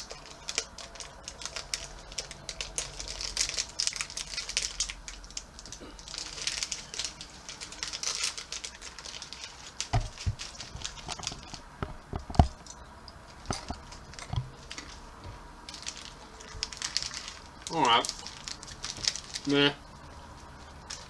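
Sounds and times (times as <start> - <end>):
plastic snack packet crinkling: 0.0 - 19.8, 20.6 - 21.0.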